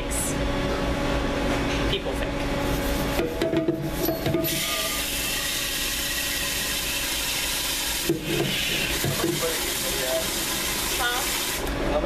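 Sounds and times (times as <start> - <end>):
fast-food kitchen background noise: 0.0 - 12.0.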